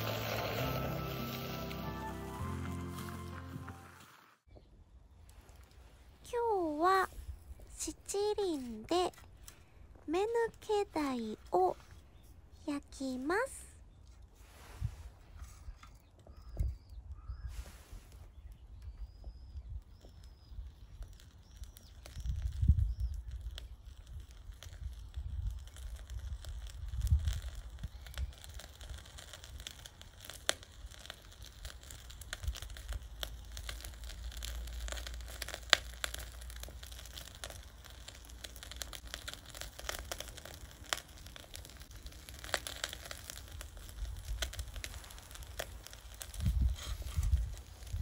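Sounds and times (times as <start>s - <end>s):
charcoal crackling and popping: 0.0s - 48.0s.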